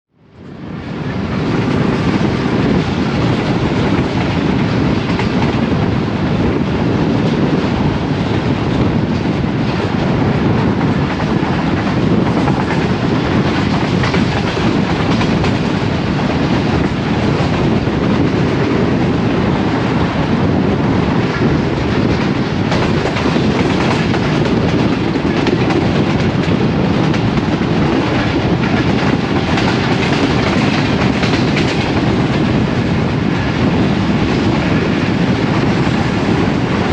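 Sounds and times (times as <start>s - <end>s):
train wheels rumbling on rail: 0.1s - 36.9s
clickety-clack over rail joints: 0.3s - 36.9s.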